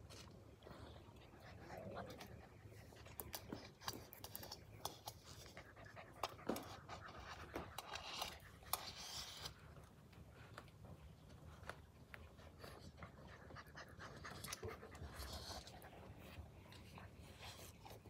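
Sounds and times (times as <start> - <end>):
puppies panting: 0.6 - 8.9, 9.8 - 18.0.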